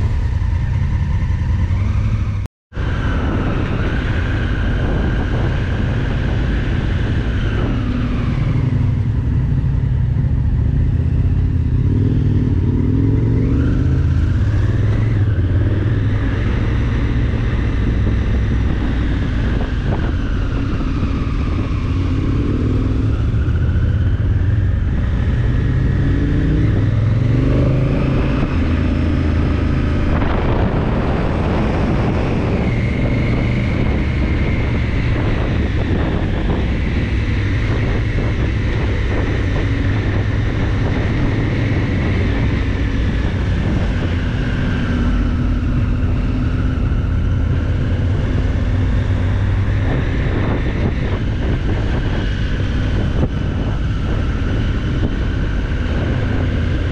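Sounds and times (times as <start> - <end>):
motorcycle engine running: 0.0 - 2.4, 3.2 - 56.9
wind rushing over microphone: 0.0 - 56.9.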